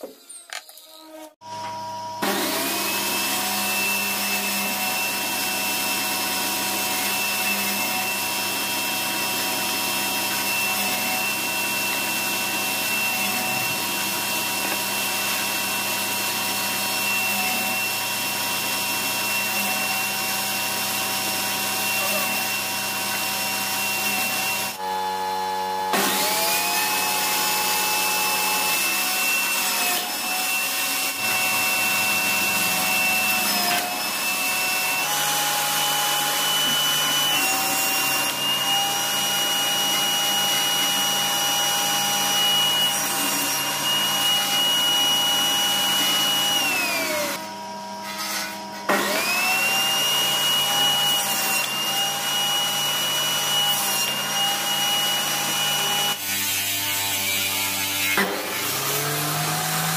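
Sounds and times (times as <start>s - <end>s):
table saw motor whine: 0.4s - 59.9s.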